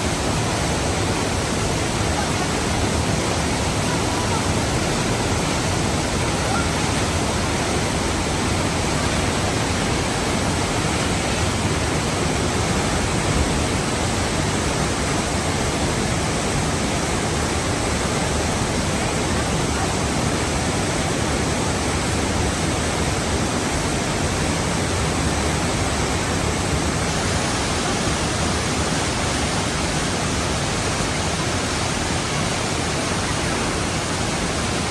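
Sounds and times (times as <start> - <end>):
steady rushing noise: 0.0 - 34.9.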